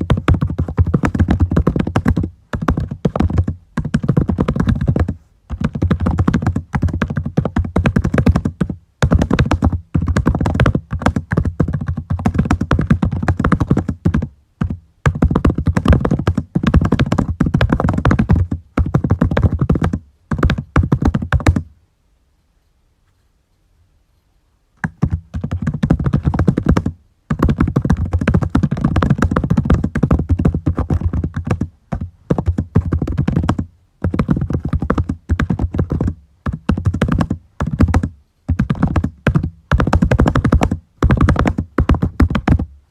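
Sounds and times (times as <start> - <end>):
typing on a computer keyboard: 0.0 - 21.6, 24.8 - 42.7.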